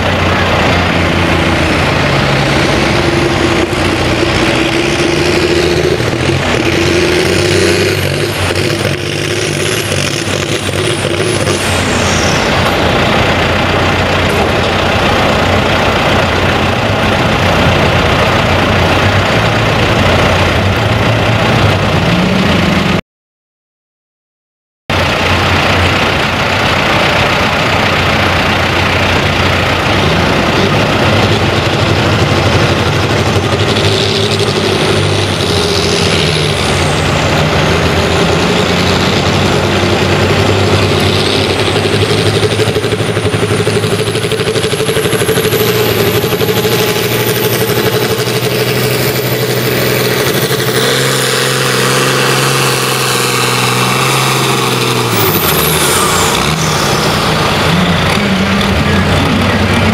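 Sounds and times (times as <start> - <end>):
diesel tractor engine under load: 0.0 - 23.0, 24.9 - 59.9
high turbo whine: 0.0 - 23.0, 24.9 - 59.9.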